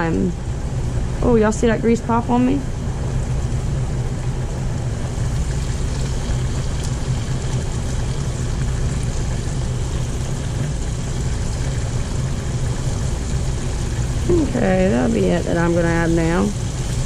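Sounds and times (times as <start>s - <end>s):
low hum: 0.0s - 17.0s
shrimp sizzling in oil: 3.2s - 17.0s.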